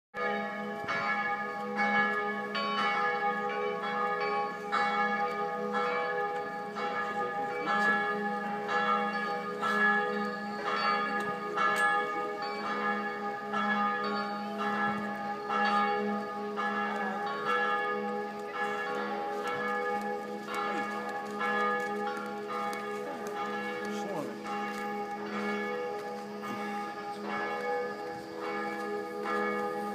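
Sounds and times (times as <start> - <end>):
church bells ringing: 0.2 - 29.9.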